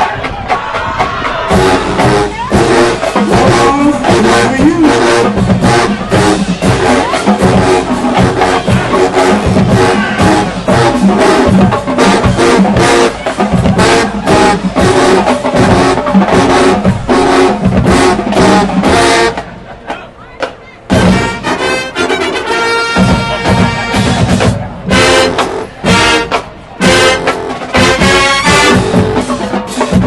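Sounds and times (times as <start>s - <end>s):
drumline beat: 0.0s - 30.0s
marching band playing: 0.0s - 30.0s.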